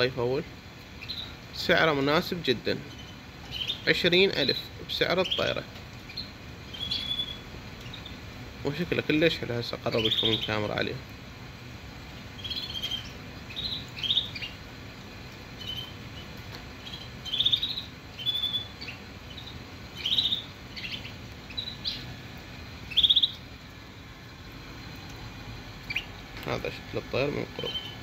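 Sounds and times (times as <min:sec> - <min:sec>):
canary chirps and trills: 0:00.0 - 0:28.0.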